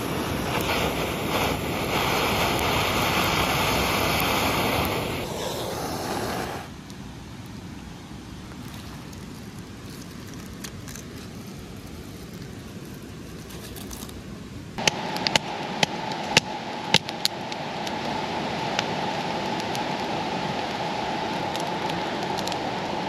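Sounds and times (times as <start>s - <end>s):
campfire crackling and popping: 0.0s - 7.0s, 8.3s - 23.0s
steady rushing noise: 0.0s - 8.4s, 10.3s - 23.0s.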